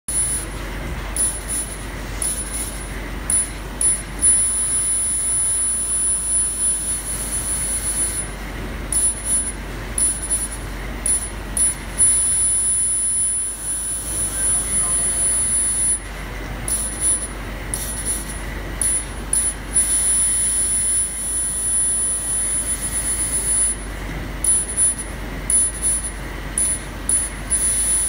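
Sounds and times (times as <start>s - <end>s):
laser cutting machine rushing: 0.1s - 28.0s
thin high whine: 0.1s - 28.0s.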